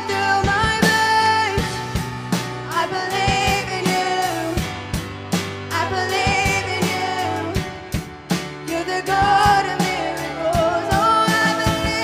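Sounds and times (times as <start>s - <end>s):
woman singing with vibrato: 0.0s - 4.8s, 5.7s - 8.0s, 8.6s - 12.0s
bass line: 0.0s - 12.0s
drum hits: 0.0s - 12.0s
keyboard: 0.0s - 12.0s.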